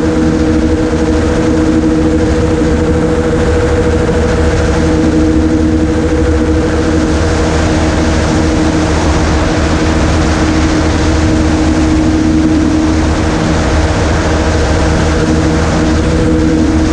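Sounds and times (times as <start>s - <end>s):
gyroplane engine and propeller drone: 0.0s - 16.9s.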